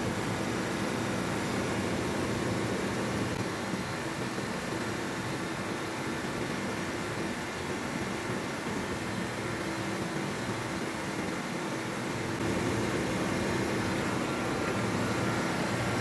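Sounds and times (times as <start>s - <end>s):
compressor machinery drone: 0.0s - 16.0s
faint steady tones: 0.0s - 16.0s.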